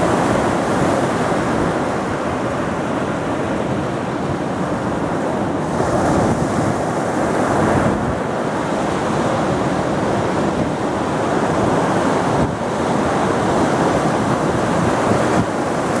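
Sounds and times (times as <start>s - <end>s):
ocean surf breaking on beach: 0.0s - 16.0s
wind rumbling on microphone: 0.0s - 16.0s.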